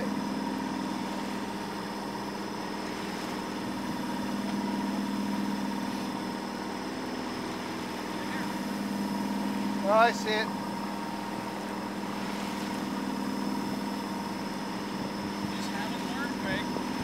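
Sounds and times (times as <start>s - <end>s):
boat engine drone: 0.0s - 17.0s
faint high whine: 0.0s - 17.0s.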